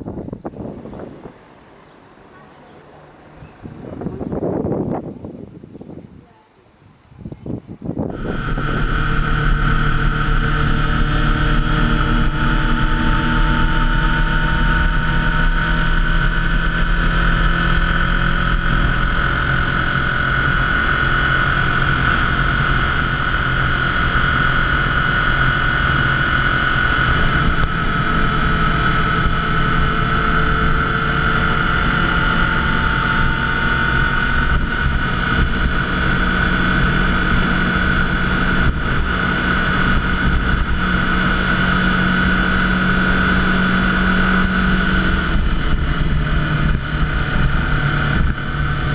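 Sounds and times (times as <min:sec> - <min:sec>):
motorcycle engine cruising: 0:00.0 - 0:05.9, 0:07.4 - 0:48.9
road and wind noise: 0:00.0 - 0:48.9.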